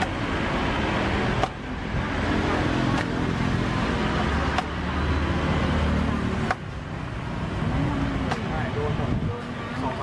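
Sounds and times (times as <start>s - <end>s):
street traffic with engine hum: 0.0s - 10.0s.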